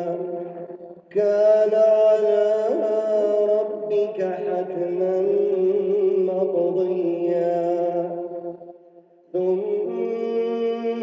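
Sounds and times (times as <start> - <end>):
man chanting melodically: 0.0 - 8.6, 9.3 - 11.0.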